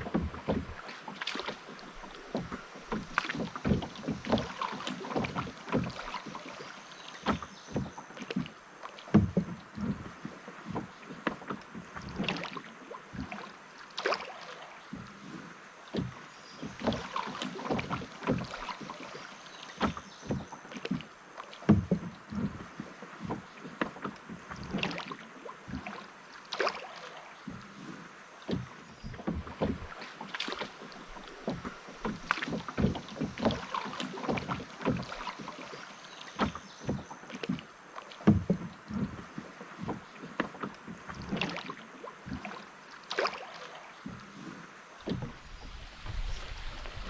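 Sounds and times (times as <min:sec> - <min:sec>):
faint moving water: 0:00.0 - 0:47.0
paddle splashing in water: 0:00.0 - 0:47.0.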